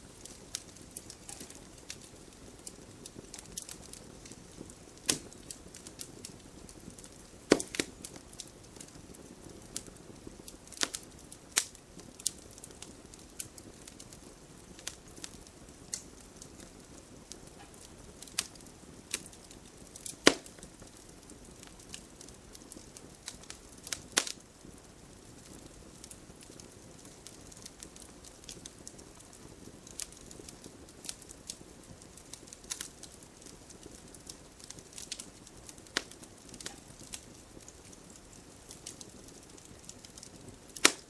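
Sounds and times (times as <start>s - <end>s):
campfire crackling and popping: 0.0s - 41.0s
soft hiss of flame: 0.0s - 41.0s.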